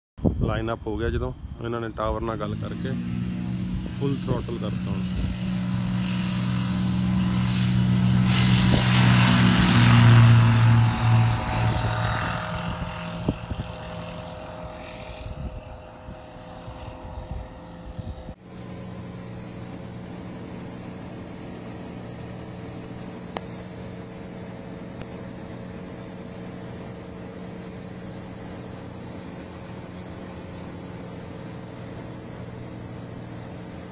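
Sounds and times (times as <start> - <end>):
propeller airplane engine: 0.2 - 33.9
engine drone inside plane cabin: 1.4 - 33.9.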